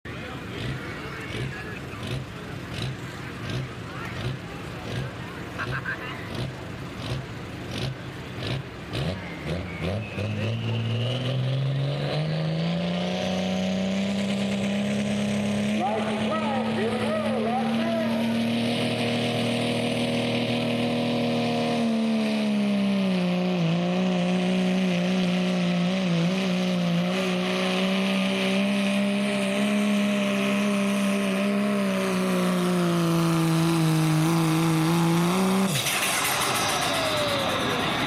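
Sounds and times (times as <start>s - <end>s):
diesel truck engine at full throttle: 0.0s - 38.0s.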